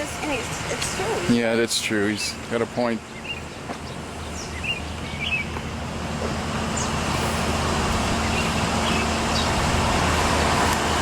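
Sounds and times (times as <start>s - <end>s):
heavy machinery engine humming: 0.0s - 11.0s.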